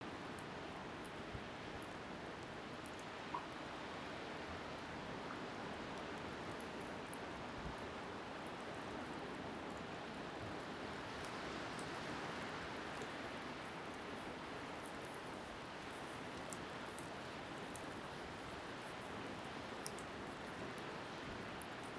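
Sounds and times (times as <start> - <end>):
wind: 0.0 - 21.9
bonfire crackling: 0.1 - 21.9.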